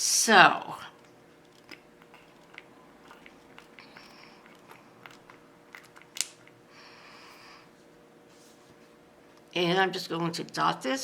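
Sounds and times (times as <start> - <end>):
soft hissy sounds: 0.0 - 11.0.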